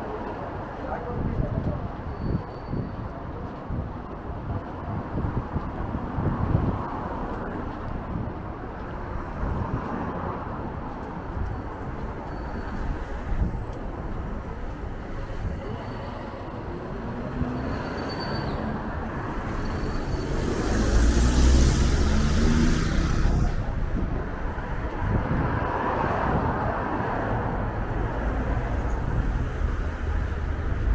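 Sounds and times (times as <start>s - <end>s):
wind buffeting microphone: 1.0s - 17.8s, 18.8s - 30.9s
cars passing: 5.8s - 30.9s.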